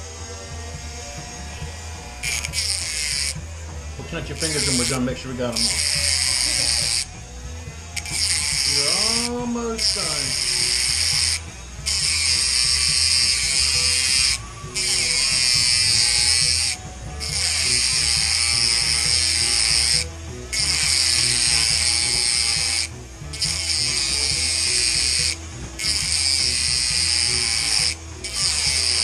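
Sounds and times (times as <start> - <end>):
rotary tool grinding metal: 0.0 - 29.0.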